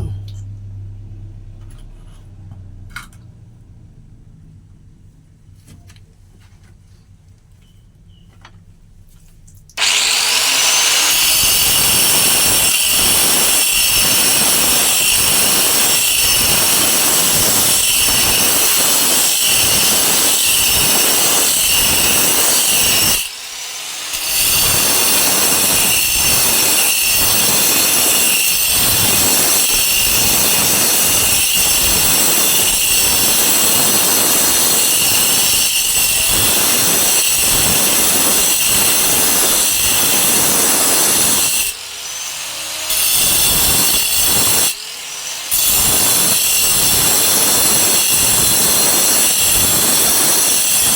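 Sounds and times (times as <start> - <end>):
power grinder cutting stone: 9.8 - 50.9.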